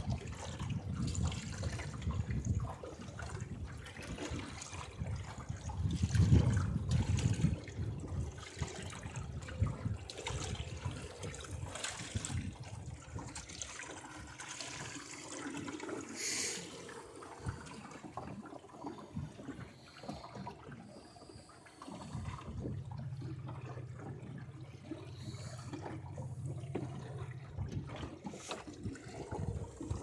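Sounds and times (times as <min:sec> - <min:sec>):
water splashing along boat hull: 0:00.0 - 0:30.0.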